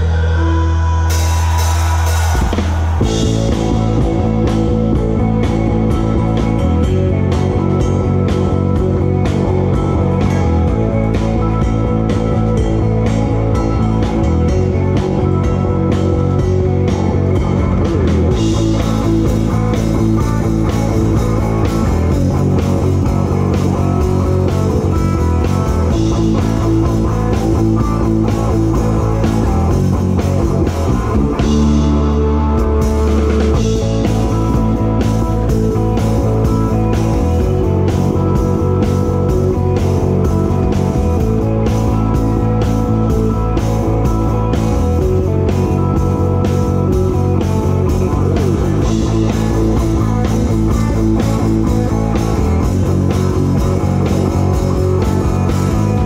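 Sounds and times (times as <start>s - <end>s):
bass guitar: 0.0s - 56.0s
drums and cymbals: 0.0s - 56.0s
electric guitar: 0.0s - 56.0s.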